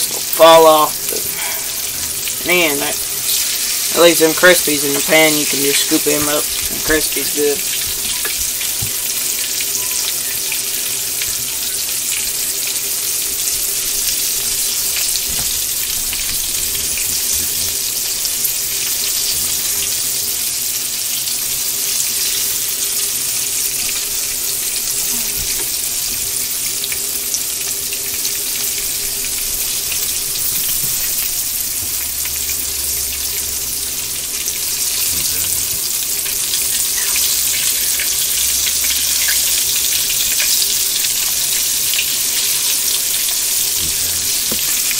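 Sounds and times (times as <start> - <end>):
meat frying with crackling: 0.0 - 44.9.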